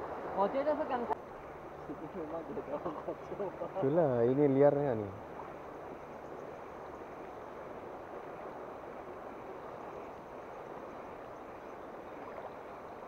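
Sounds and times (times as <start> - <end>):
fast-flowing river rushing: 0.0 - 13.0.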